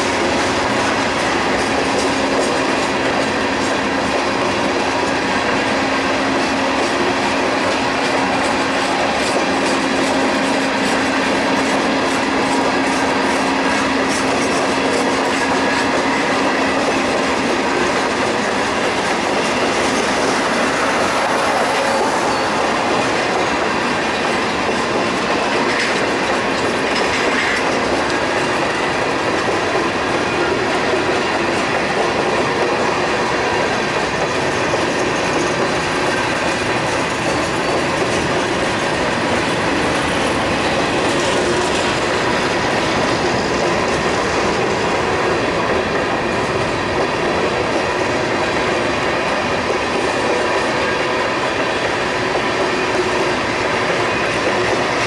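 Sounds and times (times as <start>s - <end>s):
freight train cars rolling past: 0.0s - 55.0s
steel wheels on rails: 0.0s - 55.0s.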